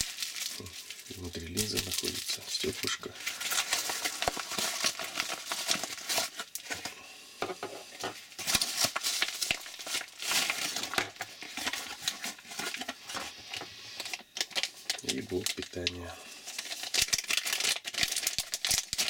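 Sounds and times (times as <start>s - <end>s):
paper packaging crinkling: 0.0s - 7.0s, 7.9s - 19.0s.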